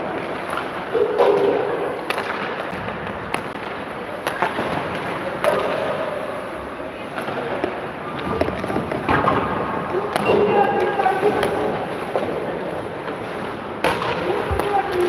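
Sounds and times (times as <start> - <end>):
skates scraping ice: 0.0 - 15.0.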